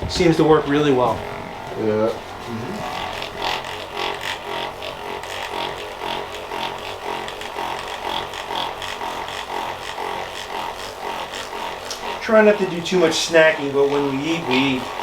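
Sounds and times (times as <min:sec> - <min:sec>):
electric massager motor hum: 0:00.0 - 0:15.0.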